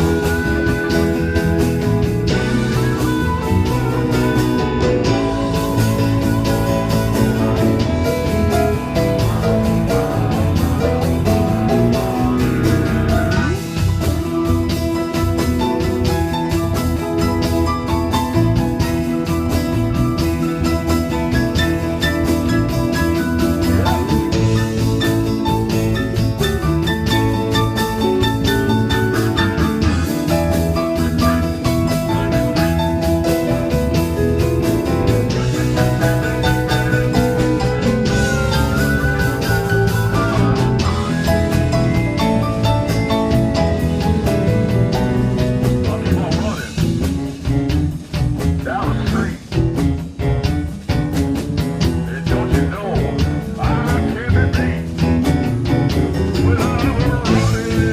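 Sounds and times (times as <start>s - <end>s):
bass: 0.0s - 57.9s
drums keeping a beat: 0.0s - 57.9s
electric guitar lead notes: 0.0s - 57.9s.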